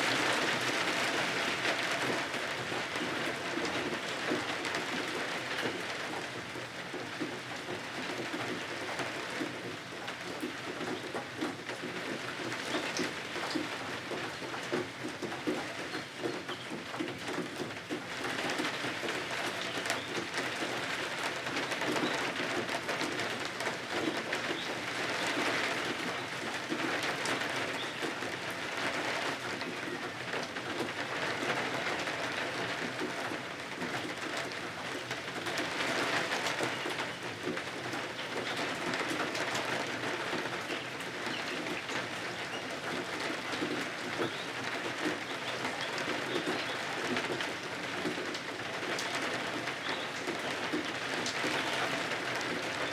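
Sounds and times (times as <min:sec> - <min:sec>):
rain pattering: 0:00.0 - 0:52.9.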